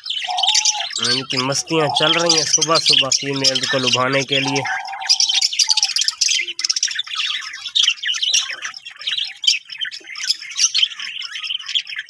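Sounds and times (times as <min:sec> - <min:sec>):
birds chirping and chattering: 0:00.0 - 0:12.0.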